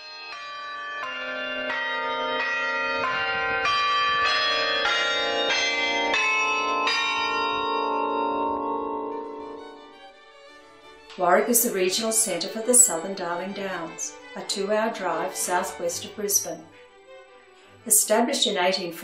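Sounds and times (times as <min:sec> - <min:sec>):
carillon bells playing a tune: 0:00.0 - 0:16.9, 0:17.7 - 0:19.0.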